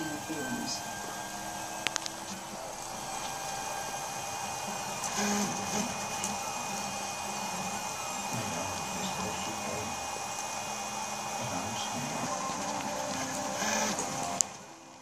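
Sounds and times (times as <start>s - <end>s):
steady mechanical whir: 0.0s - 15.0s
stepper motors buzzing: 0.0s - 15.0s.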